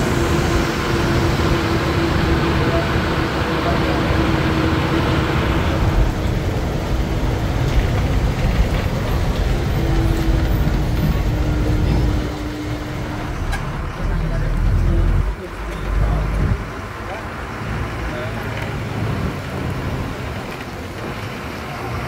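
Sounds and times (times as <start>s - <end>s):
bus diesel engine rumble: 0.0s - 22.0s.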